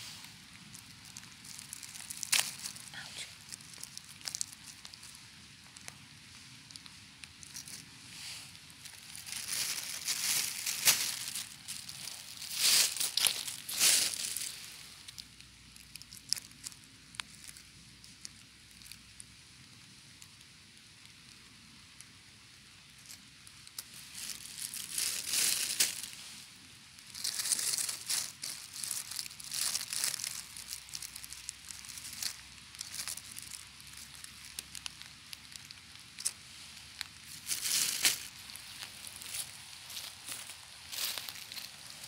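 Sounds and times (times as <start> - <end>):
dry leaves crackling and rustling: 0.0 - 19.8, 22.8 - 42.0.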